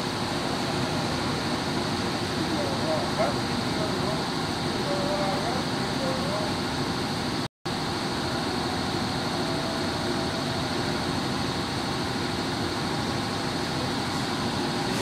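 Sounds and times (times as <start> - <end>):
steady machine drone: 0.0 - 15.0.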